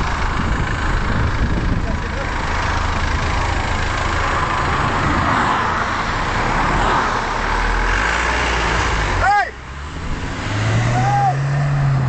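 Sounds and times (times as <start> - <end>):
road traffic noise: 0.0 - 12.0
van engine humming: 0.0 - 12.0.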